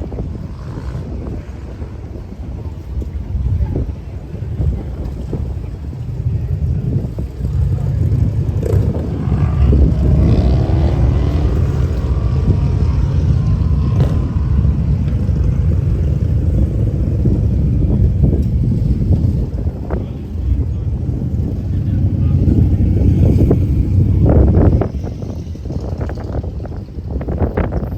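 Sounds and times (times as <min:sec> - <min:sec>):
low wind rumble: 0:00.0 - 0:27.9
vehicle engine: 0:00.0 - 0:27.9.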